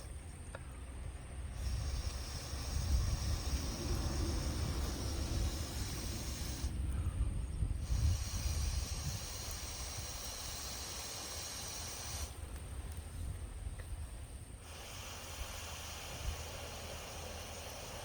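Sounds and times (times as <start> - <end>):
low fire rumble: 0.9 - 17.8
bonfire hissing: 1.4 - 18.0.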